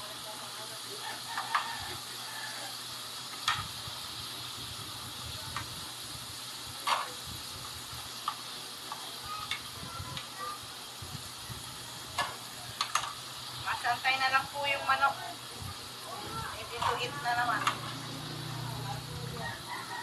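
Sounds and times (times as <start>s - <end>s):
fries sizzling in hot oil: 0.0s - 20.0s.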